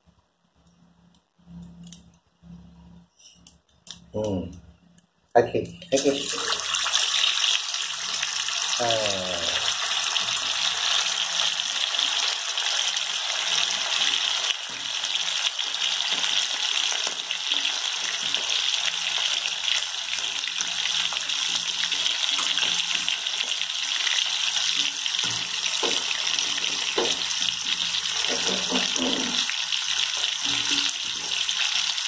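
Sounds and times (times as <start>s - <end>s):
meat sizzling in hot oil: 6.0s - 32.0s.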